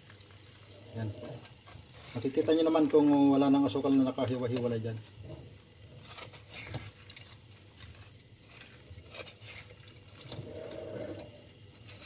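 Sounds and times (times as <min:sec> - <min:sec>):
spatula stirring peanuts in pan: 0:00.0 - 0:12.0.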